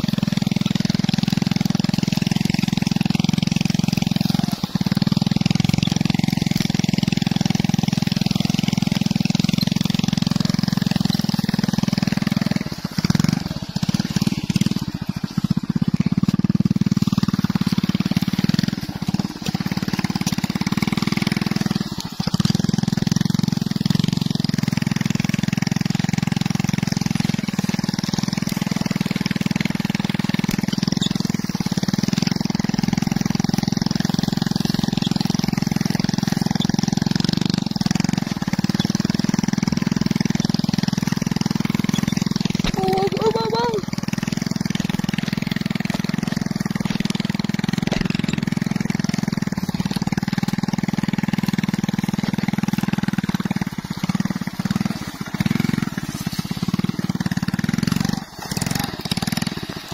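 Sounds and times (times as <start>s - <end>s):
small motorcycle engine running: 0.0s - 59.9s.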